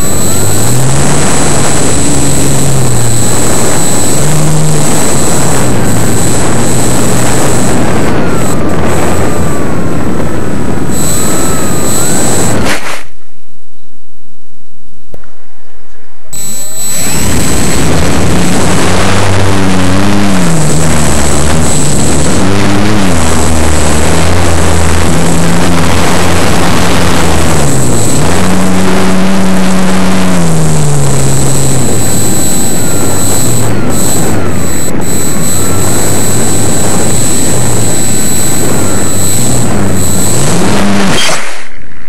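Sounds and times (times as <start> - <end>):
model airplane motor droning: 0.0 - 12.6, 16.4 - 41.2
wind rush on microphone: 0.0 - 13.0, 15.2 - 41.2
thin high whine: 0.0 - 13.5, 16.2 - 42.0.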